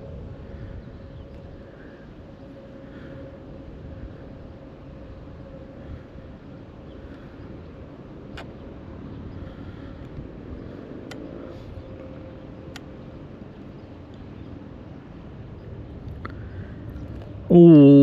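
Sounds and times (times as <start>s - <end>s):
faint steady hum: 0.0s - 18.0s
steady low rumble: 0.0s - 18.0s.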